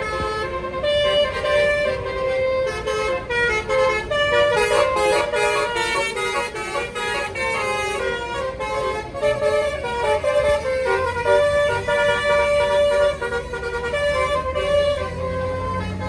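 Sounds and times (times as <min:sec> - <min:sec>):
bus engine rumble: 0:00.0 - 0:16.0
multi-tone bus horn tune: 0:00.0 - 0:16.0.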